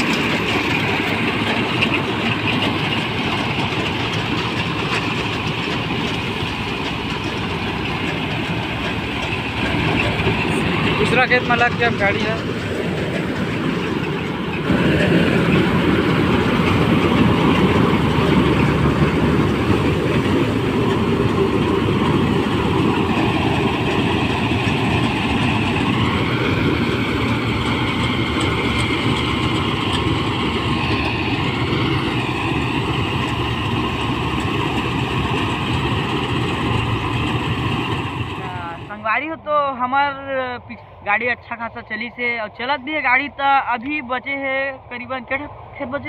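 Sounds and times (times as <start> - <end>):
high machinery whine: 0.0 - 39.1
combine harvester engine and threshing: 0.0 - 46.0.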